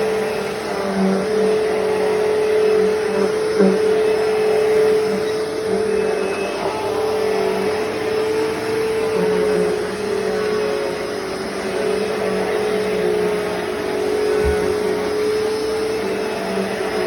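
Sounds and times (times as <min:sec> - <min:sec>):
vacuum cleaner whining: 0:00.0 - 0:17.0.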